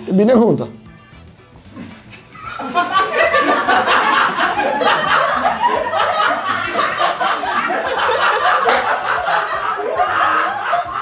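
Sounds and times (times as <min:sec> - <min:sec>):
people laughing: 0:01.7 - 0:11.0.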